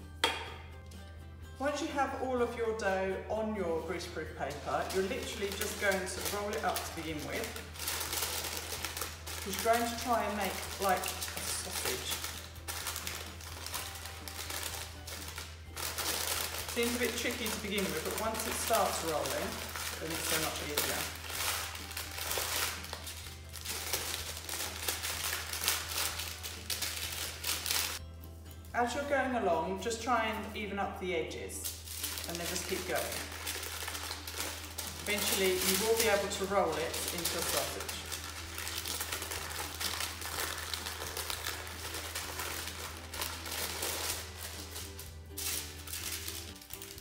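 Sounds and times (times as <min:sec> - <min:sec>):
baking paper crinkling: 0:03.7 - 0:28.0, 0:31.6 - 0:47.0.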